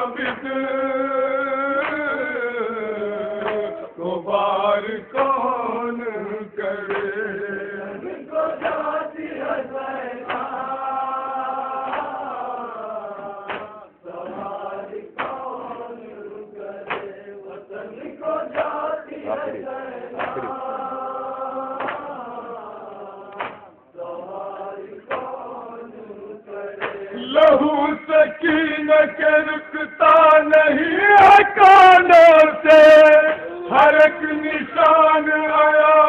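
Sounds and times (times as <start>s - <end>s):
men chanting a lament: 0.0s - 36.0s.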